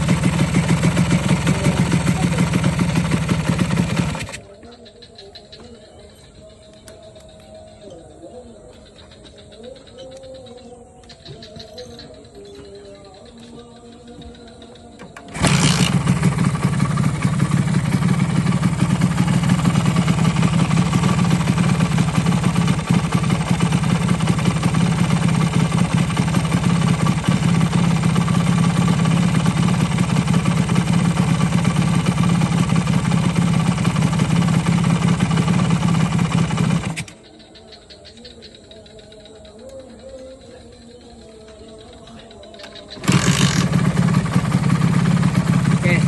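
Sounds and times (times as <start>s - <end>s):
motorcycle engine idling: 0.0s - 46.0s.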